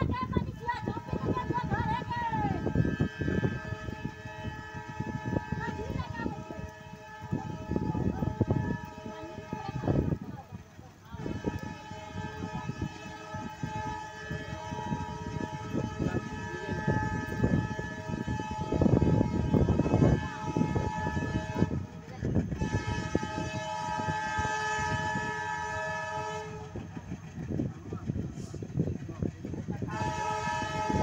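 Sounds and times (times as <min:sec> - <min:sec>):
train rumbling: 0:00.0 - 0:31.0
locomotive air horn: 0:00.8 - 0:10.3, 0:11.1 - 0:28.7, 0:29.8 - 0:31.0.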